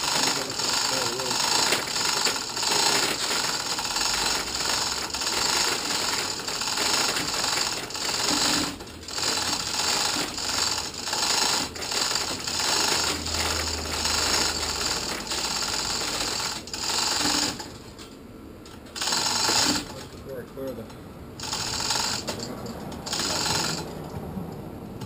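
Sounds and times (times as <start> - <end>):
chain hoist rattling and clicking: 0.0 - 24.2.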